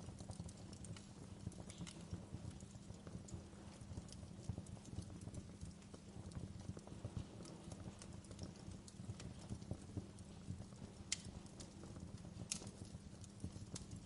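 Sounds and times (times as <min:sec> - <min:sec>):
fireplace crackling: 0:00.0 - 0:14.0
low steady rumble: 0:00.0 - 0:14.0.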